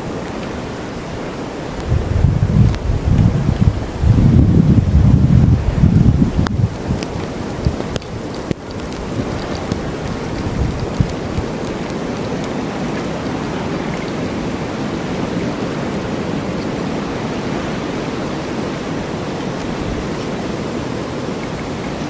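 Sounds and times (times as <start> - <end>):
blizzard wind rushing: 0.0 - 22.0.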